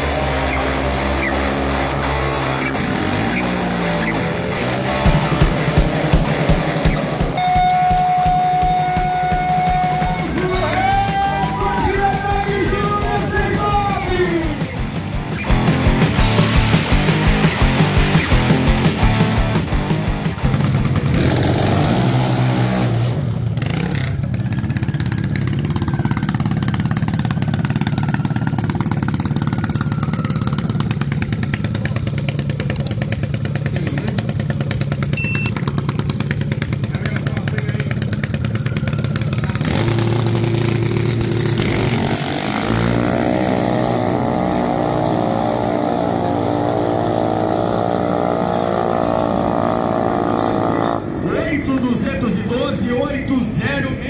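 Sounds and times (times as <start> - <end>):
dragster engines revving: 0.0 - 54.0.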